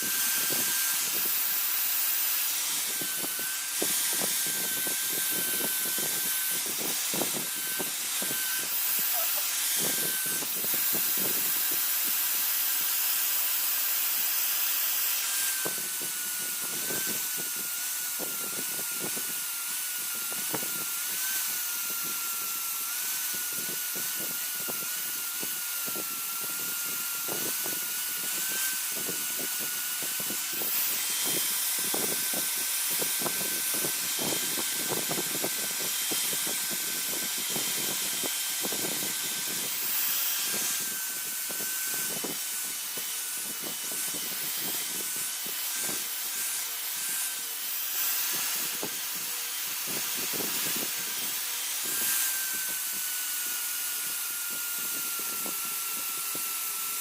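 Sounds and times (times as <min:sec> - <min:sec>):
power tool whining: 0:00.0 - 0:57.0.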